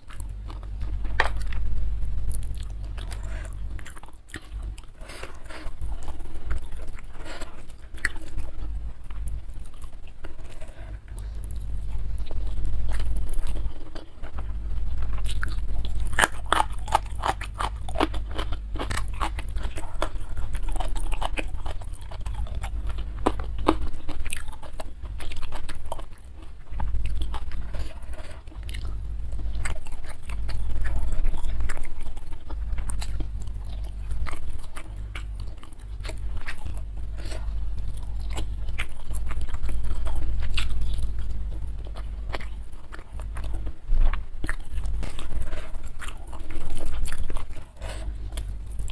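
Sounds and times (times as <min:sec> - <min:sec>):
chewing and crunching food: 0:00.0 - 0:48.9.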